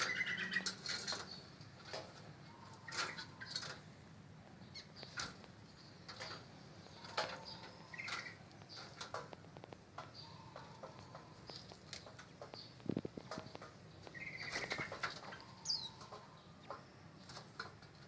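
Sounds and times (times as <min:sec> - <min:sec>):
birds chirping: 0:00.0 - 0:18.0
birds clicking: 0:00.0 - 0:18.0.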